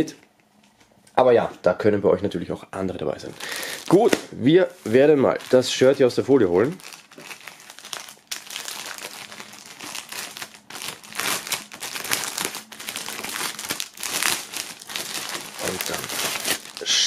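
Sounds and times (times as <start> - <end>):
plastic bag crinkling: 3.2 - 17.0.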